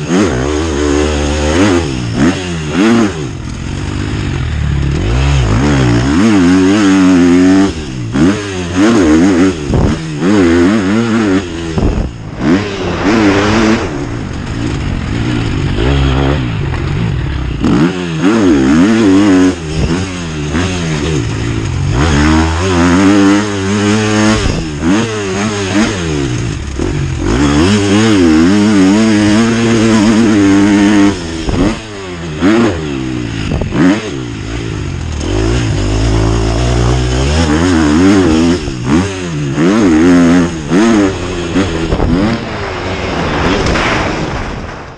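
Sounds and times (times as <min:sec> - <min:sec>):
motocross bike engine revving: 0:00.0 - 0:44.8.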